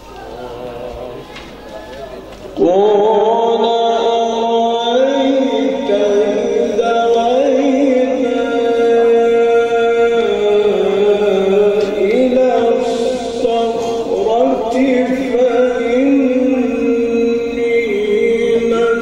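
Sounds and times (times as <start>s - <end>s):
man singing religious chant: 2.6s - 19.0s.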